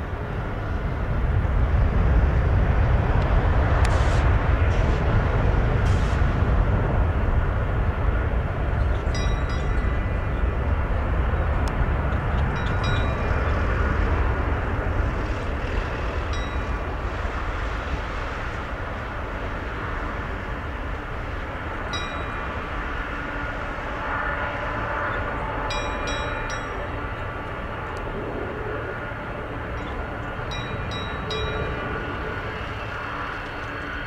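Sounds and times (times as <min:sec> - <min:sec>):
jet engines roaring at takeoff: 0:00.0 - 0:34.0.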